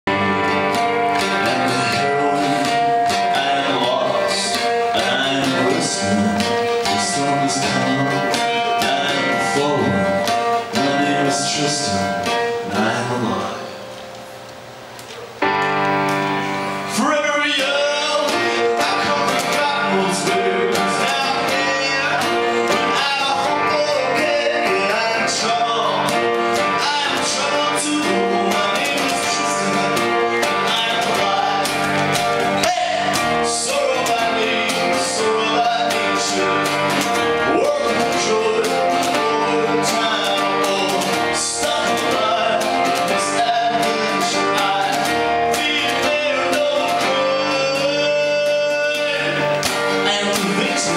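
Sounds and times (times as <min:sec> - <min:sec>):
man singing: 0:00.1 - 0:13.9, 0:16.8 - 0:50.9.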